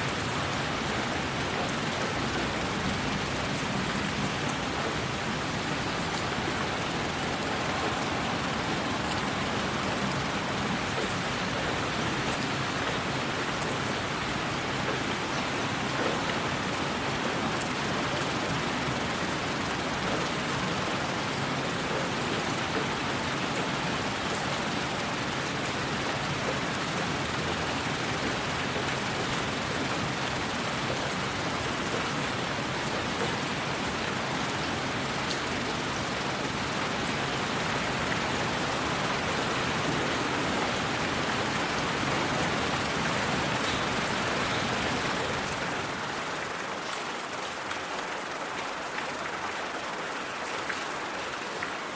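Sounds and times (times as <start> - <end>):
steady white noise hiss: 0.0 - 51.9.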